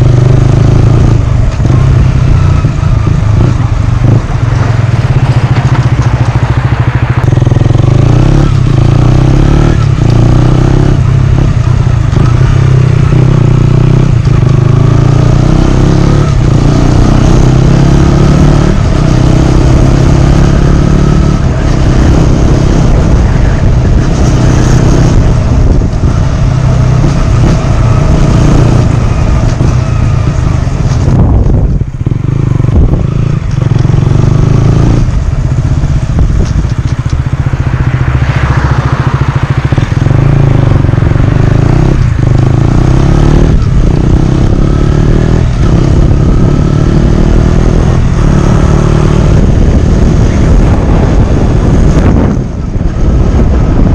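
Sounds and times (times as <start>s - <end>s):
motorcycle engine running loud: 0.0s - 53.9s.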